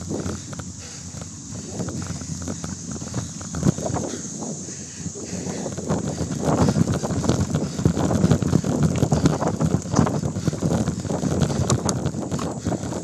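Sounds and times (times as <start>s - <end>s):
bike rattling over dirt: 0.0s - 13.0s
wind rushing over microphone: 0.0s - 13.0s.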